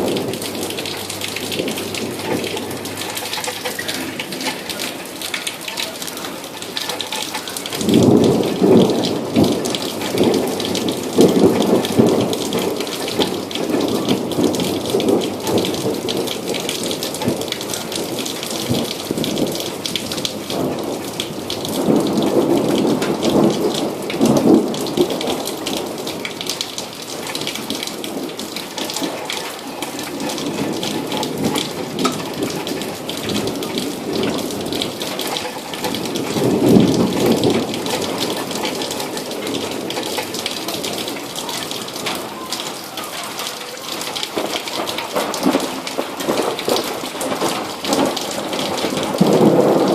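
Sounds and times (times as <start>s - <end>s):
rolling thunder: 0.0s - 42.6s, 44.0s - 49.9s
rain falling: 0.0s - 49.9s.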